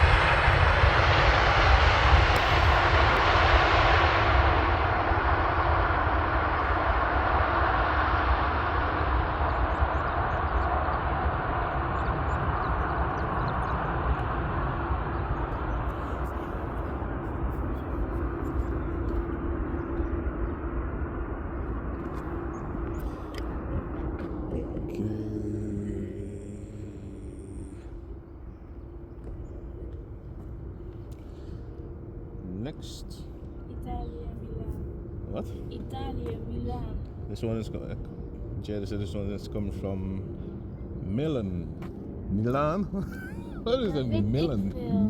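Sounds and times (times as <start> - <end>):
faint engine whine: 0.0 - 45.0
jet engine roar: 0.0 - 45.0
low hum: 0.0 - 45.0.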